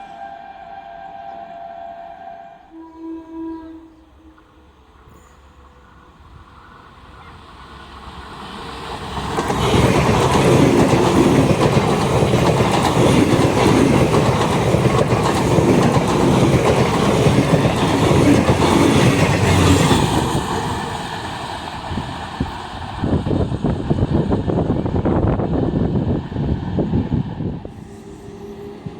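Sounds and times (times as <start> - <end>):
passenger train passing at speed: 0.0 - 28.9.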